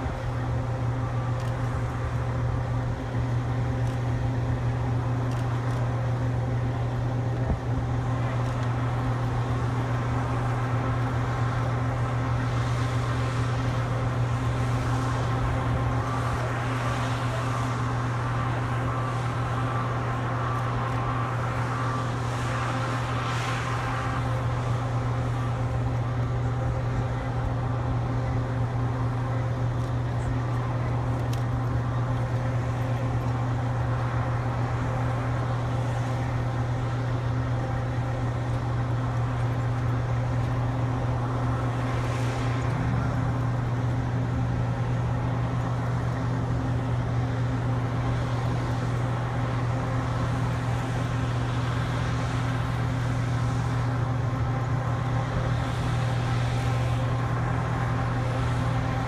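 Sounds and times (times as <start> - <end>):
idling engine drone: 0.0 - 59.0.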